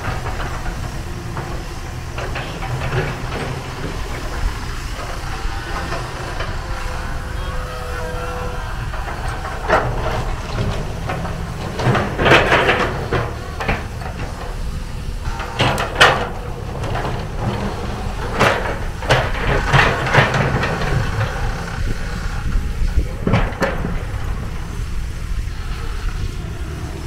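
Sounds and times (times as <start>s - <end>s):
excavator diesel engine rumble: 0.0s - 27.0s
hydraulic hissing and rattling: 0.0s - 27.0s.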